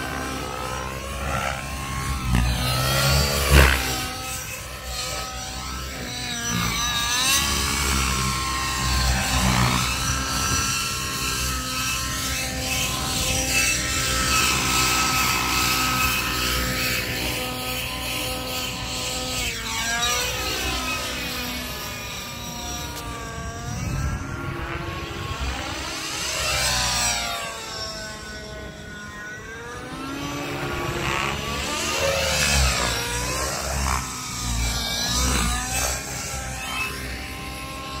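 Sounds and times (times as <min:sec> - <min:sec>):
model helicopter flying past: 0:00.0 - 0:38.0.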